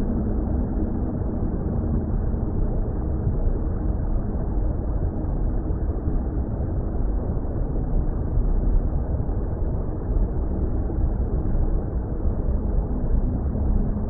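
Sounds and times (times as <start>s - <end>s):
deep underwater rumble: 0.0s - 14.0s.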